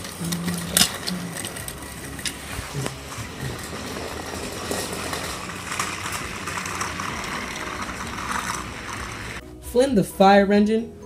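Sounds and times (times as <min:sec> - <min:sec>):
toy train motor whir: 0:00.0 - 0:09.4
wheel clicks on track: 0:00.0 - 0:09.4.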